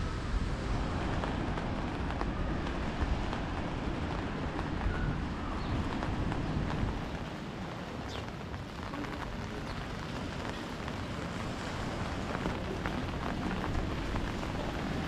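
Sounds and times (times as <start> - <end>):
rain hissing on paving: 0.0 - 15.0
raindrop ticks: 0.8 - 15.0.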